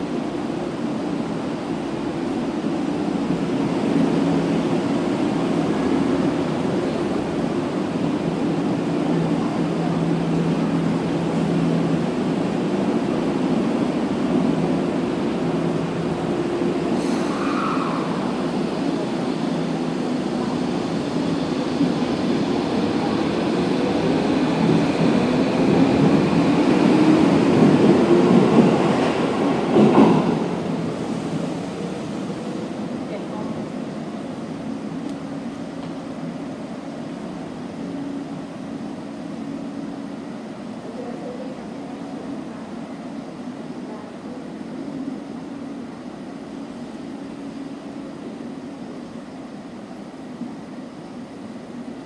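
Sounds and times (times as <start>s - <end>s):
subway train rumble: 0.0s - 52.0s.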